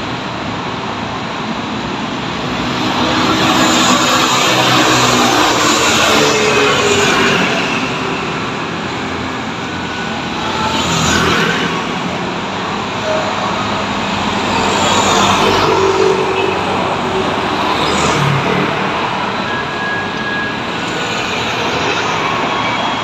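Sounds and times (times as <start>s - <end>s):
bus going by: 0.0s - 23.0s
scooters and cars passing: 0.0s - 23.0s.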